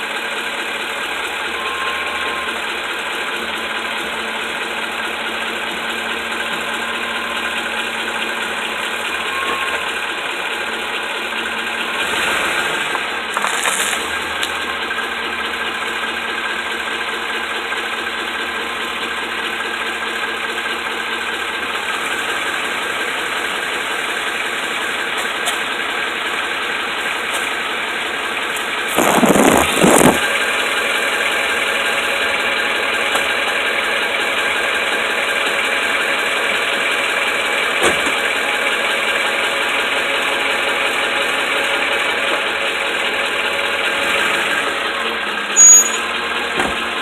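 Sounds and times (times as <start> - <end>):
pickup truck engine running: 0.0 - 47.0
strange mechanical noise: 0.0 - 47.0.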